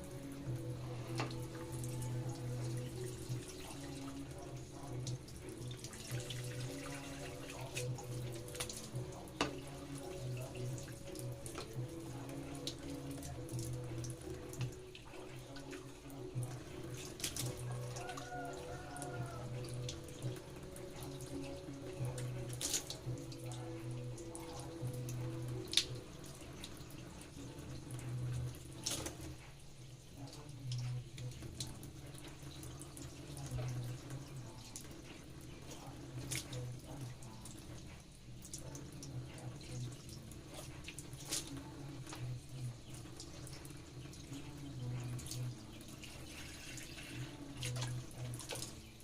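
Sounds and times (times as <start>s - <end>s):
tap water running into sink: 0.0s - 49.0s.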